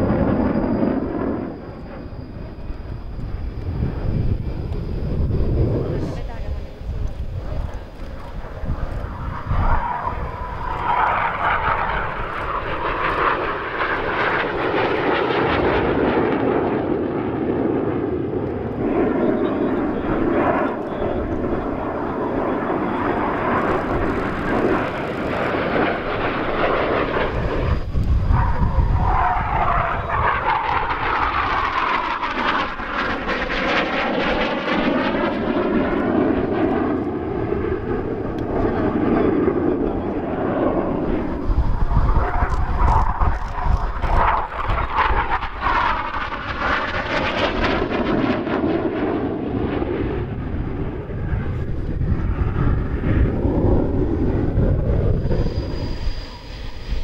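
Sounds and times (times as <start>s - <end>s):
jet engine roar: 0.0s - 57.0s
jet passing whoosh: 0.0s - 57.0s.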